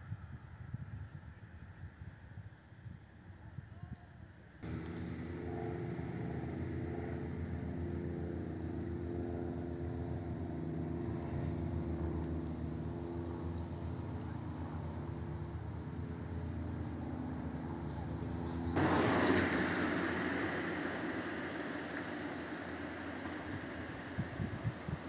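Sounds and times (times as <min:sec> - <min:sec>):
car engine drone: 0:04.6 - 0:25.0
tyre and road noise: 0:04.6 - 0:25.0.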